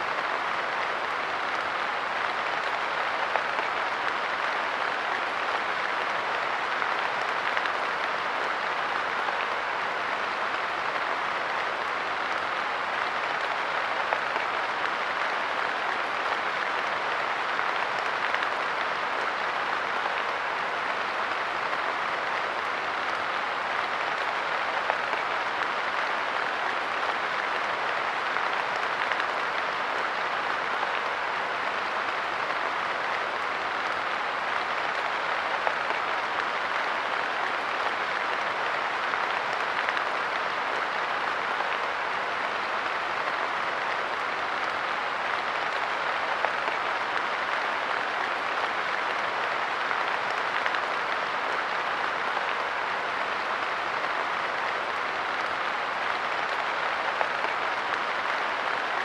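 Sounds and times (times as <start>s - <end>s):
rain on a bench: 0.0s - 59.0s.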